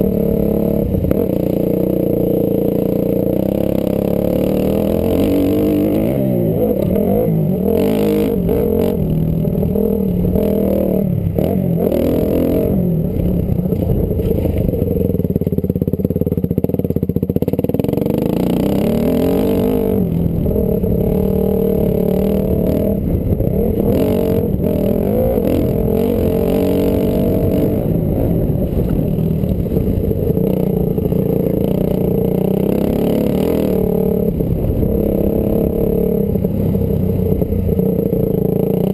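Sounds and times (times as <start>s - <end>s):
dirt bike engine revving: 0.0s - 15.3s, 16.6s - 38.9s.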